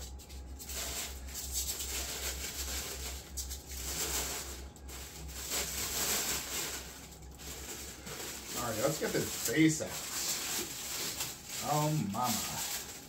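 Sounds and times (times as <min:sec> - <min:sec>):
packaging rustling: 0:00.1 - 0:13.0.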